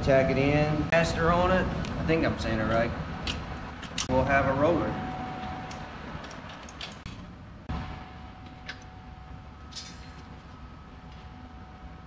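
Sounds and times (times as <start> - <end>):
workshop hum: 0.0 - 12.0.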